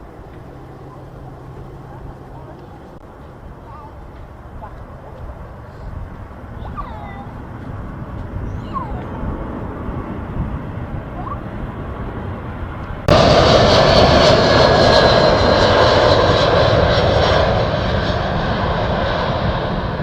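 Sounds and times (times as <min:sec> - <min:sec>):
aircraft engines rushing: 0:00.0 - 0:20.0
high engine whine: 0:00.0 - 0:20.0.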